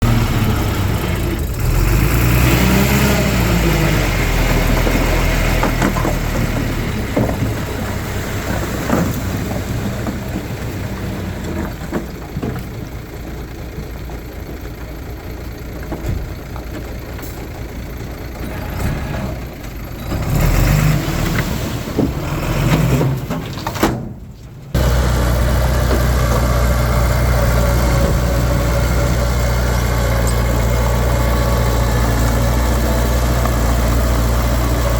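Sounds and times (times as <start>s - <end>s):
heavy diesel machinery engine revving: 0.0s - 11.9s, 17.2s - 23.4s, 24.7s - 34.9s.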